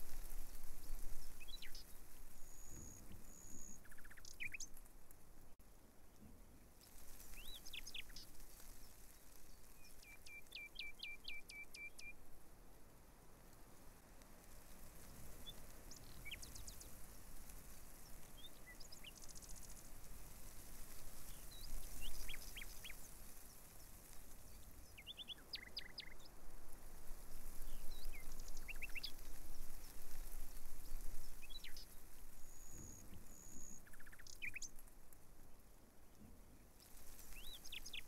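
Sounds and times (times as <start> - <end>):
small birds chirping: 0.0 - 5.0, 6.2 - 12.2, 14.5 - 35.2, 36.1 - 38.0.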